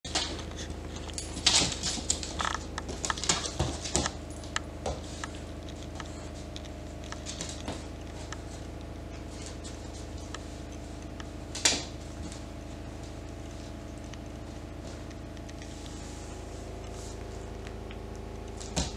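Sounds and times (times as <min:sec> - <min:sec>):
dog claws on wooden floor: 0:00.1 - 0:18.9
steady hum: 0:00.1 - 0:18.9.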